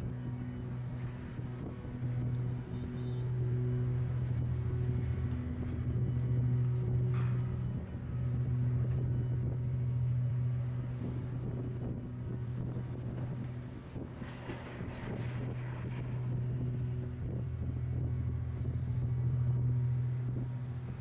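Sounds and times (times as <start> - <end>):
heavy diesel engines droning: 0.0 - 21.0.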